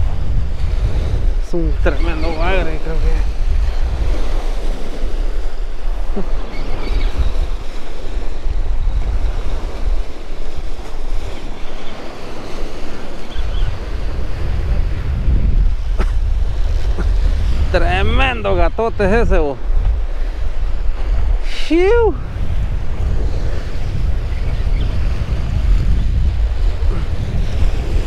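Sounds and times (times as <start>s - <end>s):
waves washing on beach: 0.0s - 28.0s
wind buffeting microphone: 0.0s - 28.0s.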